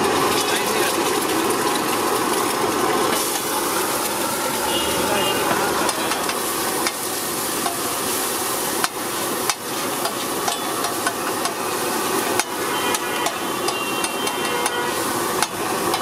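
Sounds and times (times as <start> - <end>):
egg sizzling on griddle: 0.0 - 16.0.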